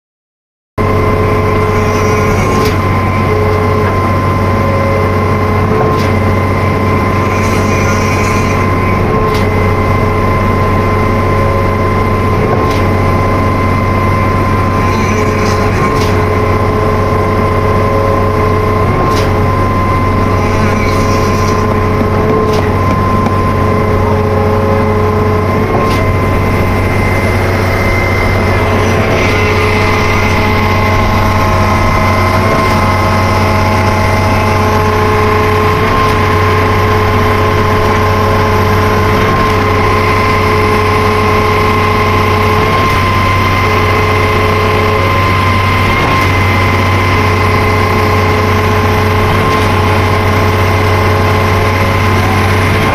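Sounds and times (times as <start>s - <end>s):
concrete pump engine drone: 0.8s - 52.9s
high-pitched whine: 0.8s - 52.9s.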